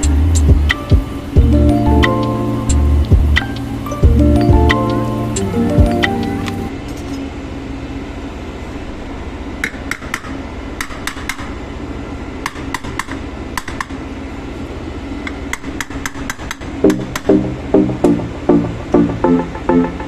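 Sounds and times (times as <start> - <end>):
low machinery hum: 0.0 - 15.8, 16.6 - 20.0.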